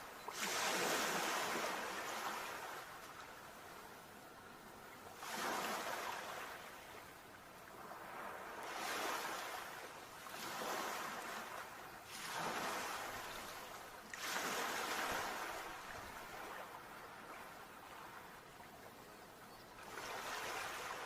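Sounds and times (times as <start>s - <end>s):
sea waves washing ashore: 0.0s - 19.0s, 19.8s - 21.0s.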